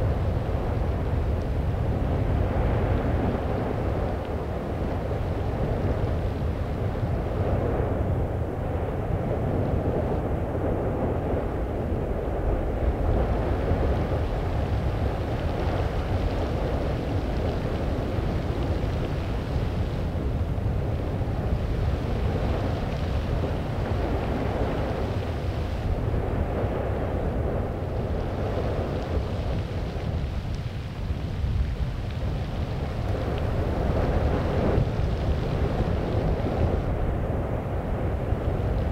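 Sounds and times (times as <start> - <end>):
volcano rumbling: 0.0 - 38.9.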